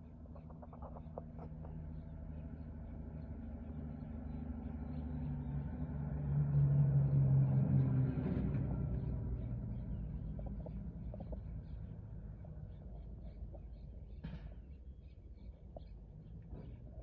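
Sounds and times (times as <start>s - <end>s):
van engine approaching: 0.1s - 17.0s.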